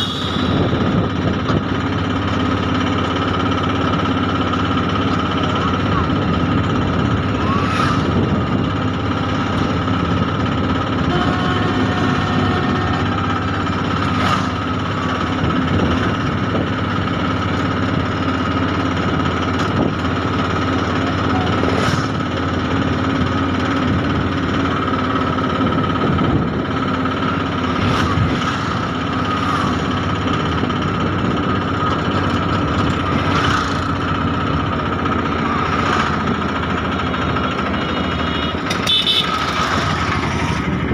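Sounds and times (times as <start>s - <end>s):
train rumble with whine: 0.0s - 40.9s.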